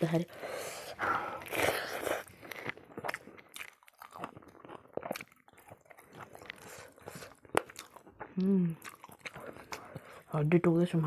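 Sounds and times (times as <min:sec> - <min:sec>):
wet chewing of meat: 0:00.3 - 0:10.3.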